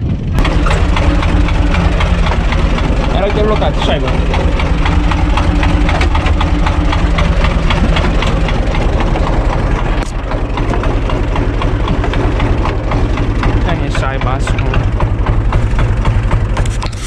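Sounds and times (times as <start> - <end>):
tractor diesel engine clatter: 0.0 - 17.0.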